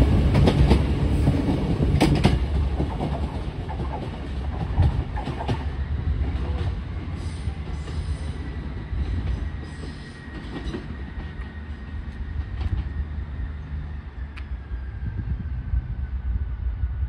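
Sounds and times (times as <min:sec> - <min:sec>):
train engine rumble: 0:00.0 - 0:17.0.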